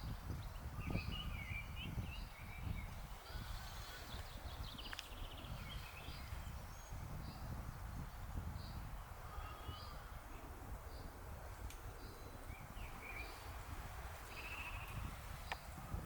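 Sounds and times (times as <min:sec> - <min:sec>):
birds calling: 0:00.0 - 0:15.8
wind rumbling on microphone: 0:00.0 - 0:16.0.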